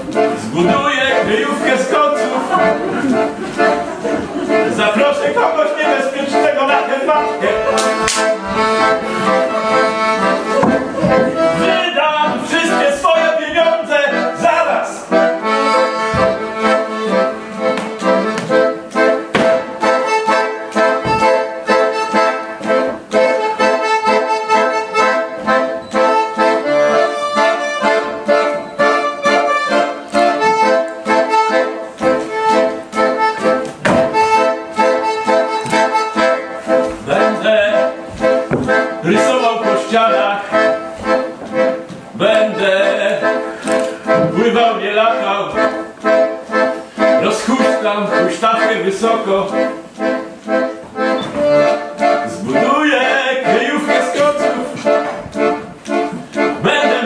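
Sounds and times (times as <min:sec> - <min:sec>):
accordion playing a tune: 0:00.0 - 0:57.0.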